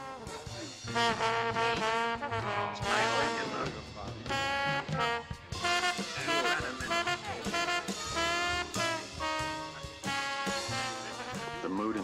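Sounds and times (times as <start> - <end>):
brassy jazz band music: 0.0 - 12.0
trombone sliding notes: 0.0 - 12.0.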